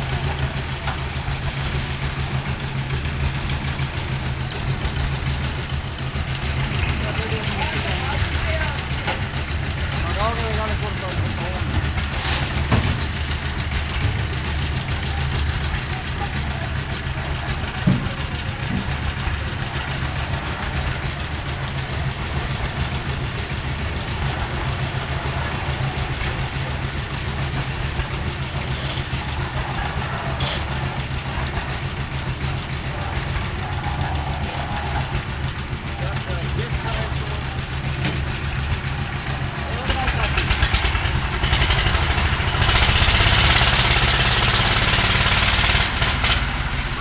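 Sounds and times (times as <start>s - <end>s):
concrete mixer engine hum: 0.0s - 47.0s
noisy rattle: 0.0s - 47.0s.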